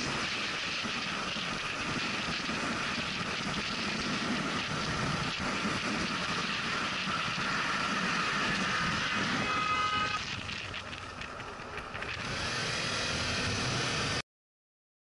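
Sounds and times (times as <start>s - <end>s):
road and wind noise: 0.0s - 14.2s.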